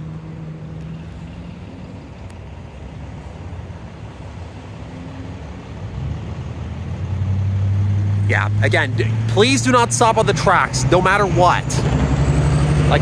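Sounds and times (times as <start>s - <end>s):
cars running: 0.0s - 13.0s
low vehicle engine hum: 0.0s - 13.0s.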